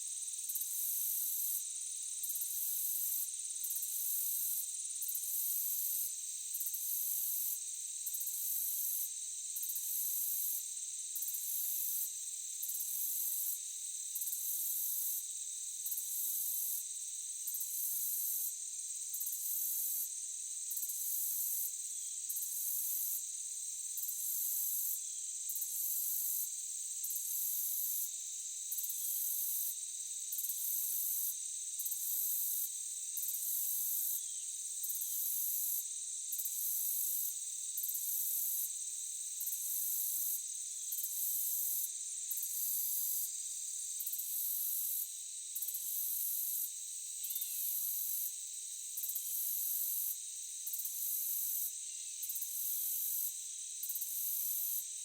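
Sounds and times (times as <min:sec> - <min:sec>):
insects chirping chorus: 0:00.1 - 0:55.0.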